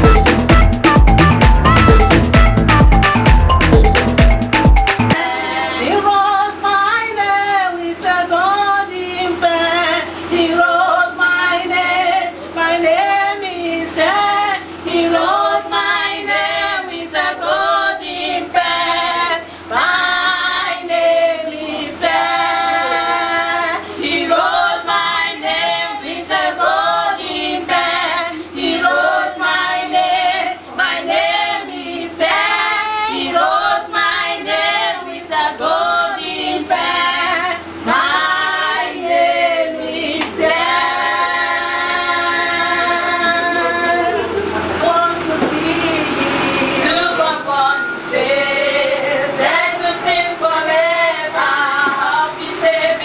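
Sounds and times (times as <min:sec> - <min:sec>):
woman and girls singing gospel: 0:05.1 - 0:53.0.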